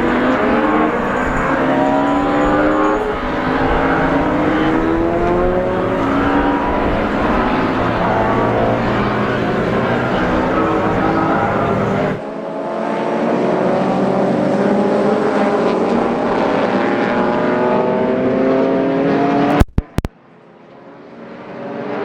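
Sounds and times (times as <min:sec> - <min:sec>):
racing car engines accelerating: 0:00.0 - 0:19.7.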